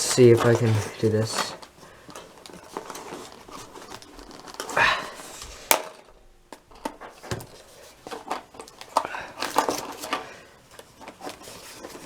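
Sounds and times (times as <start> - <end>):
packaging clicks and knocks: 0.0 - 4.8, 5.6 - 12.0.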